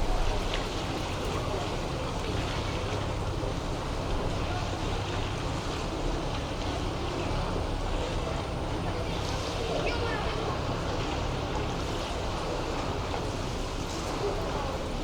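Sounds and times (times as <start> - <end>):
continuous low rumble: 0.0 - 15.0
faint people's voices: 0.0 - 15.0
surf or boat noise: 0.0 - 15.0.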